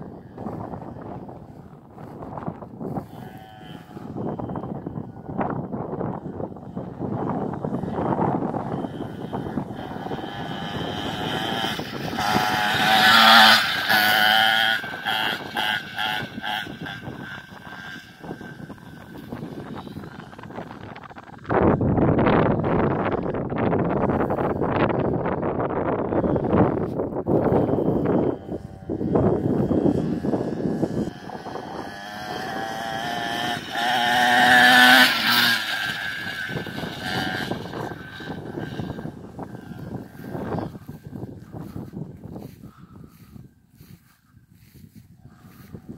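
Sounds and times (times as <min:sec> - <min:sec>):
mini bike buzzing motor: 0:00.0 - 0:45.9.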